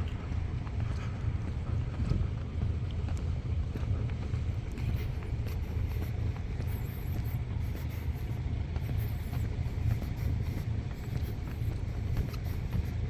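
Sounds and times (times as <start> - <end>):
distant ship engines: 0.0 - 13.0
traffic rumble: 0.0 - 13.0.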